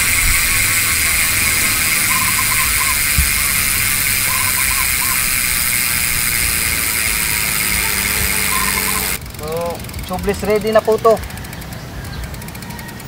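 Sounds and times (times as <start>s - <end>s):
bicycle hub freewheel buzz: 0.0s - 13.0s.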